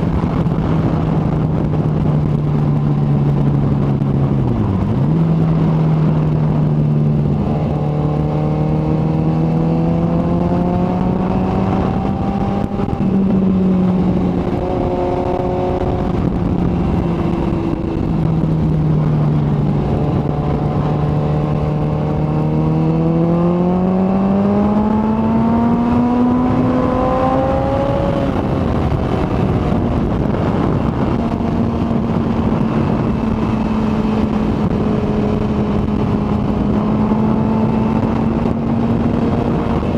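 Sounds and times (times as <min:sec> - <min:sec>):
motorcycle engine revving: 0:00.0 - 0:39.9
steady rush of noise: 0:00.0 - 0:39.9.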